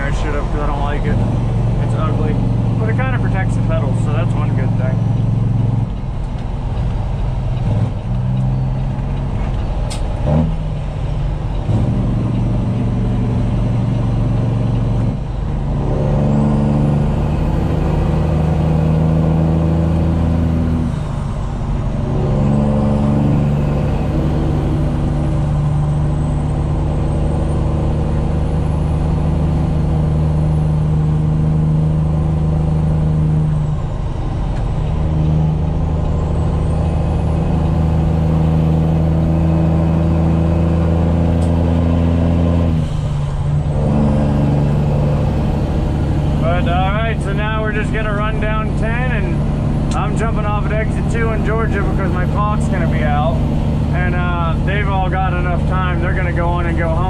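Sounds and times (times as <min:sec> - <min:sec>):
truck diesel engine under load: 0:00.0 - 0:57.0.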